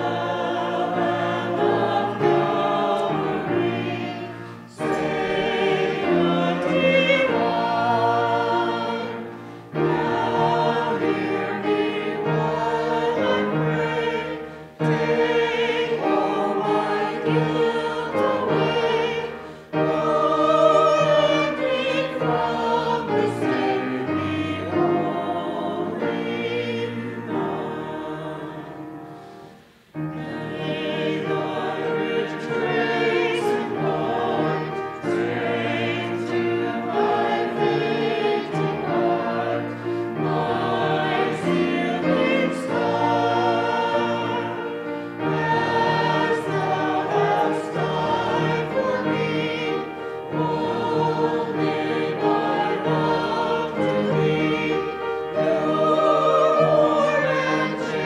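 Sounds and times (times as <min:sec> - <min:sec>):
choir singing sacred music: 0:00.0 - 0:58.0.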